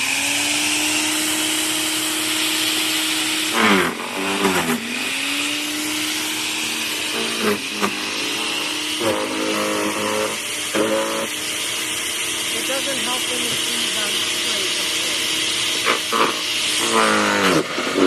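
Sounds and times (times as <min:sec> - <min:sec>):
wood chipper motor running: 0:00.0 - 0:18.0.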